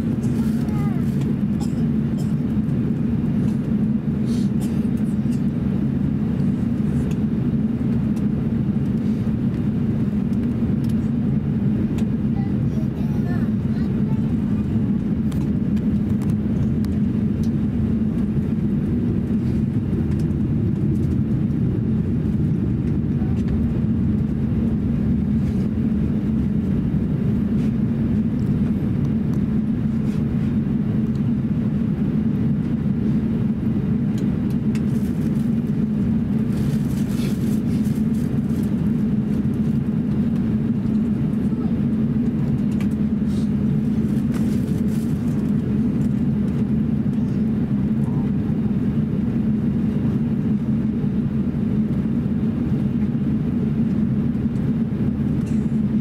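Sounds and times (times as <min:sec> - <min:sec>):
airliner engine hum: 0:00.0 - 0:56.0.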